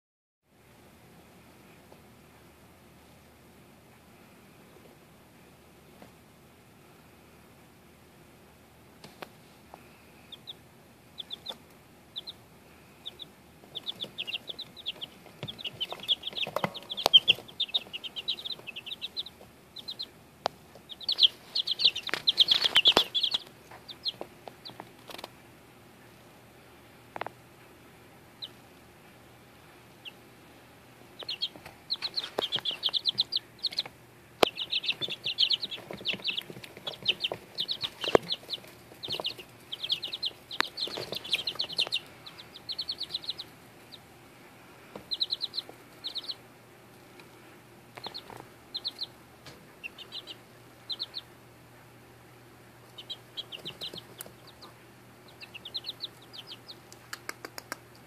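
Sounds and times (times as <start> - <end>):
chicks peeping: 9.0 - 26.2, 27.0 - 58.0.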